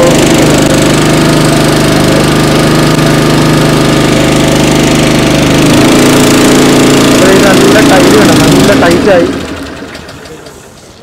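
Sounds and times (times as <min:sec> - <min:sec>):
small petrol engine running pump: 0:00.0 - 0:11.0.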